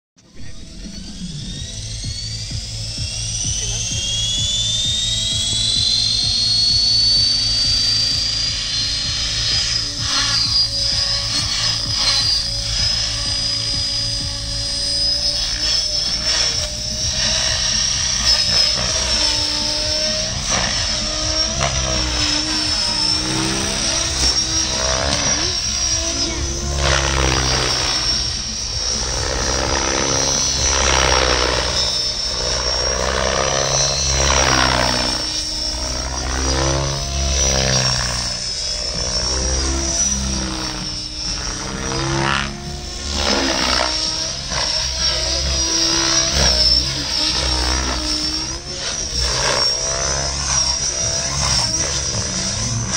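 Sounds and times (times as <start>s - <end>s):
helicopter rotor noise: 0.2s - 52.9s
high-pitched motor whine: 0.2s - 52.9s.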